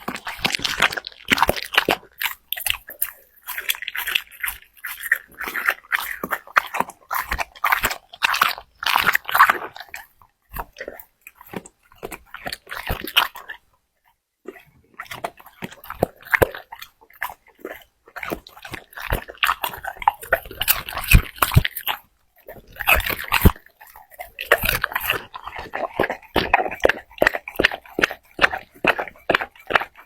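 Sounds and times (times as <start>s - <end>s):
pet chewing and crunching: 0.0s - 30.0s.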